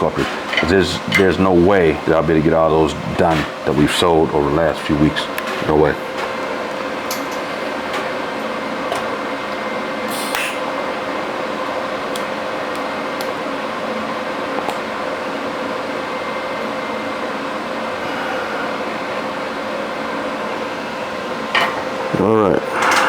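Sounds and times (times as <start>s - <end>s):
machine hum with hiss: 0.0s - 23.0s.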